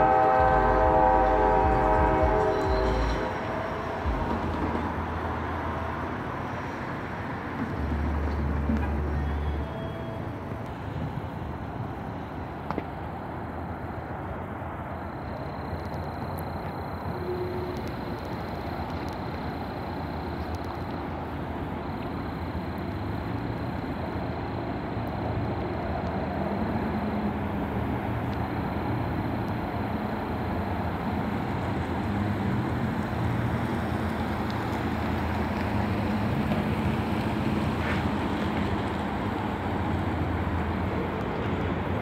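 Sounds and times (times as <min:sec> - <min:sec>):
diesel locomotive engine rumble: 0:00.0 - 0:42.0.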